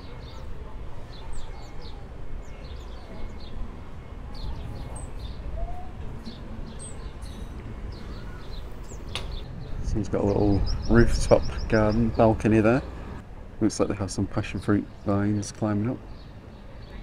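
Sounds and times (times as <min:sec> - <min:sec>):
small birds chirping: 0:00.0 - 0:13.2, 0:14.2 - 0:17.0.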